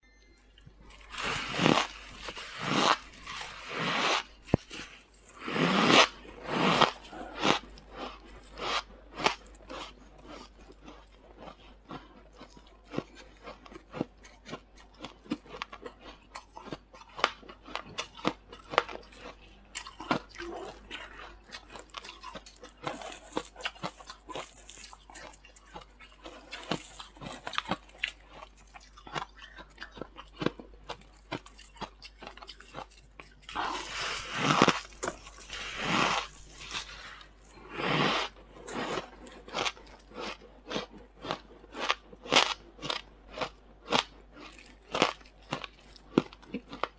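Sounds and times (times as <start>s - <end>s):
chewing crackles: 0.2s - 46.9s.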